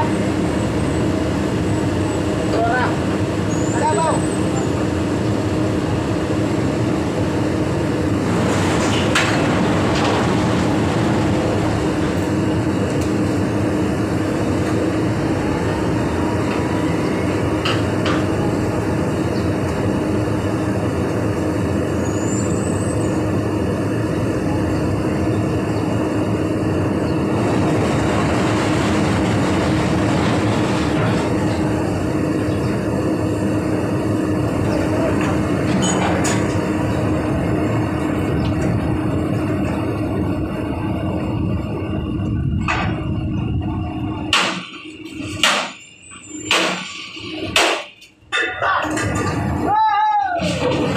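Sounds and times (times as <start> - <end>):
heavy machinery droning: 0.0 - 50.9.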